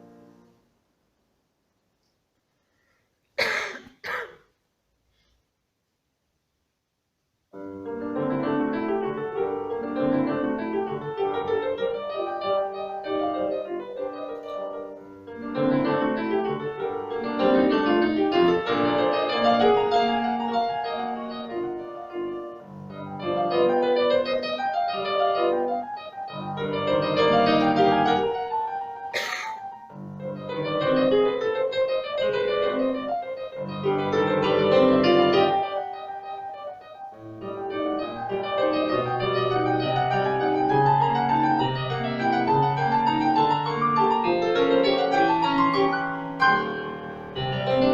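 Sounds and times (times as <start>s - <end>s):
piano music: 0.0s - 0.6s, 7.6s - 47.9s.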